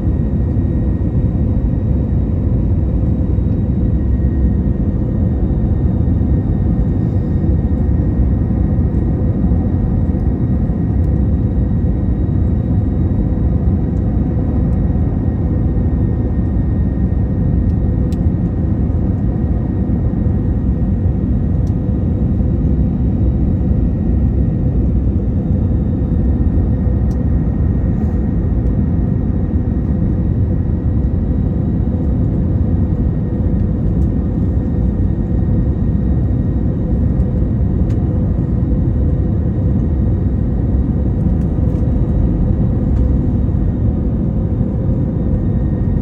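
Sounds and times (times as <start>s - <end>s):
jet cabin rumble: 0.0s - 46.0s.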